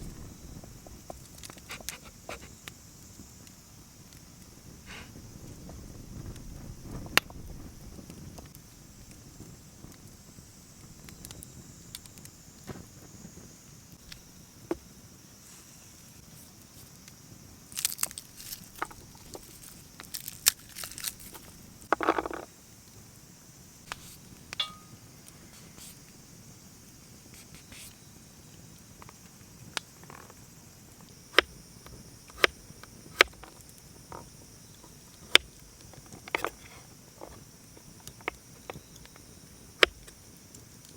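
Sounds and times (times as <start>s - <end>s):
wood fire crackling and popping: 0.0s - 15.2s, 16.2s - 27.4s, 28.0s - 40.9s
faint high hiss: 0.0s - 40.9s.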